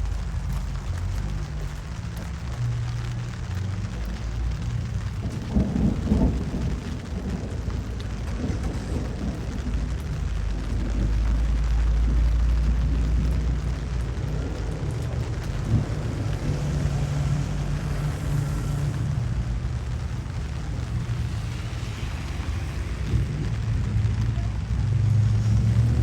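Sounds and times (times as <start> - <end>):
rain hiss: 0.0 - 26.0
car engines cruising past: 4.6 - 26.0.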